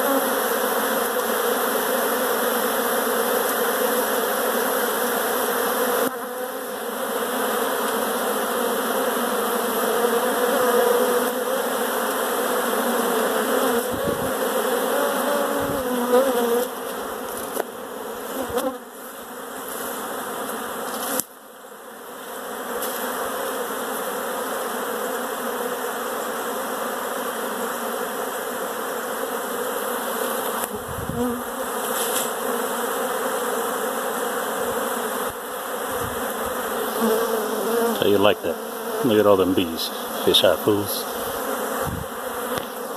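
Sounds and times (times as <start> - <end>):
bees buzzing: 0.0 - 42.9.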